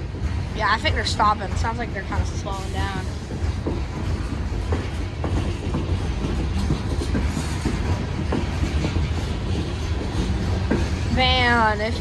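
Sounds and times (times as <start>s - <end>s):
freight train rumbling past: 0.0s - 12.0s
train wheels clicking and knocking: 0.0s - 12.0s.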